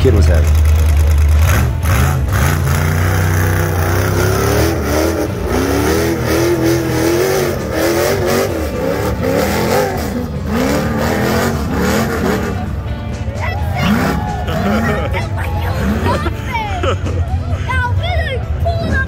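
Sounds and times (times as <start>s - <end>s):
buggy engine revving hard: 0.0s - 19.0s.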